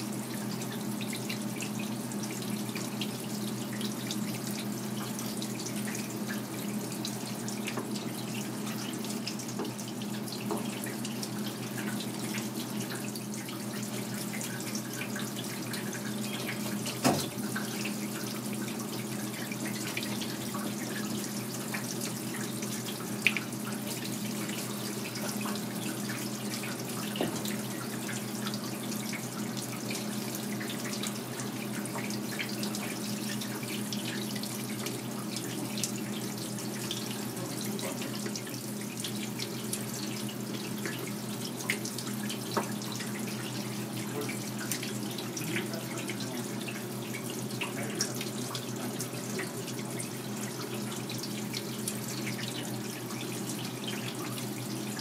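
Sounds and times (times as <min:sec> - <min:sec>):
tap water running into sink: 0:00.0 - 0:55.0.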